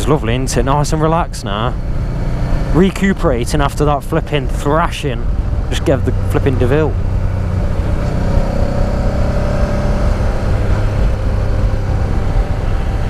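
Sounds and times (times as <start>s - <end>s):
low rumble of road noise: 0.0s - 13.0s
motorcycle engine cruising: 0.0s - 13.0s.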